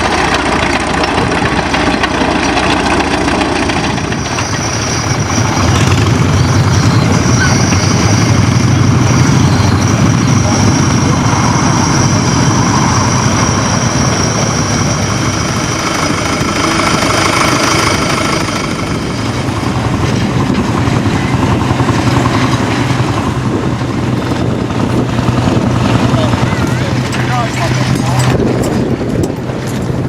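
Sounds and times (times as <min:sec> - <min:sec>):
machinery engine droning: 0:00.0 - 0:30.0.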